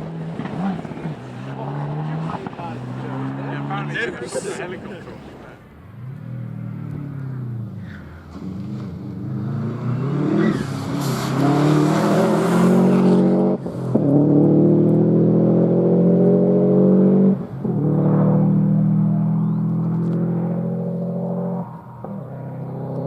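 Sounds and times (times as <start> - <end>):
rally car engine accelerating: 0.0 - 4.2, 5.7 - 23.0.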